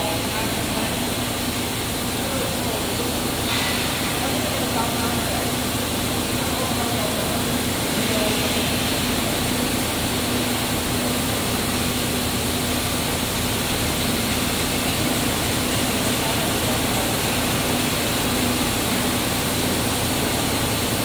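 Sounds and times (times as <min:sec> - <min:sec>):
machinery hiss: 0:00.0 - 0:21.0.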